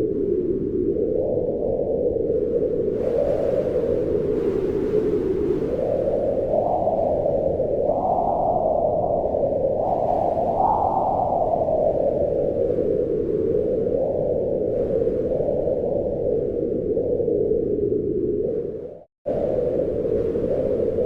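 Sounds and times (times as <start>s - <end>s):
gusting wind: 0.0s - 21.0s.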